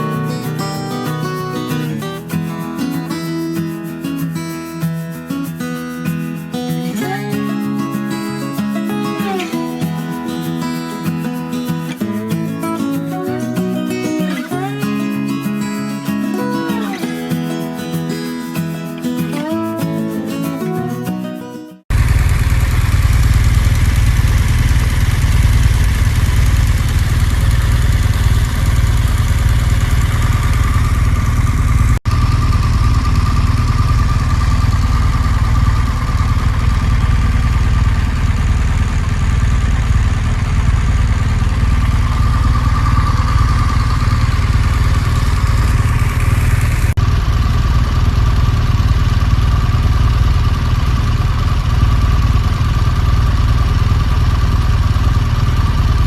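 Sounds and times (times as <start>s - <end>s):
motorcycle engine running: 0.0s - 20.2s, 21.9s - 56.0s.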